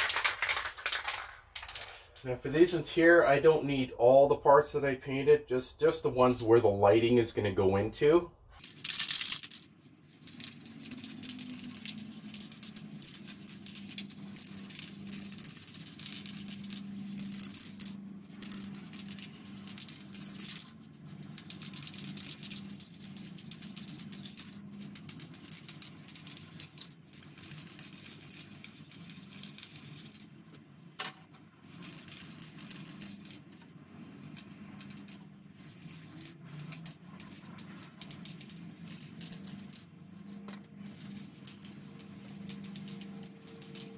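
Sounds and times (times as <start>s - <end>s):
plastic parts clicking and rattling: 0.0s - 2.2s, 8.6s - 43.9s.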